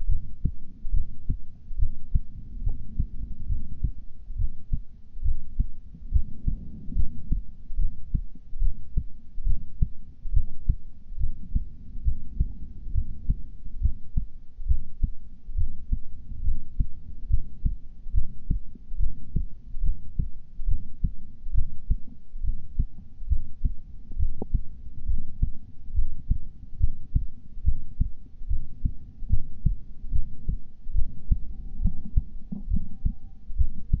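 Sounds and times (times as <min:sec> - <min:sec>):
heart beating: 0:00.0 - 0:34.0.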